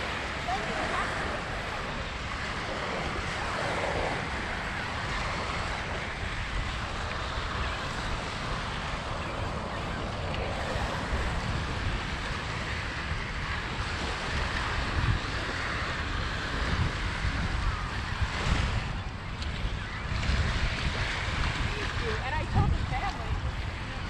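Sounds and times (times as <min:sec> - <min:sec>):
lake waves rushing: 0:00.0 - 0:24.0
wind buffeting microphone: 0:00.0 - 0:24.0.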